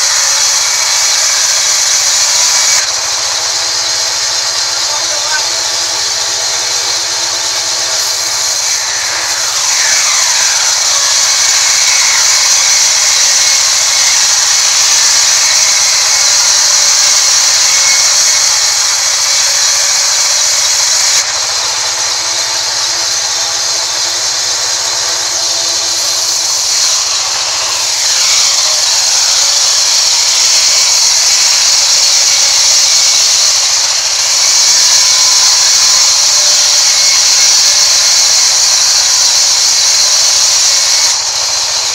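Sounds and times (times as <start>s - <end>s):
band saw cutting log: 0.0s - 41.9s
falling whine: 0.0s - 41.9s.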